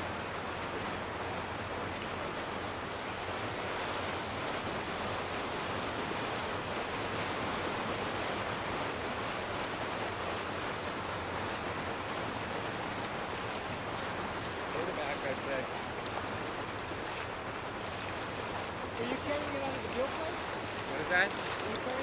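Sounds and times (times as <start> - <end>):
ocean waves: 0.0 - 22.0.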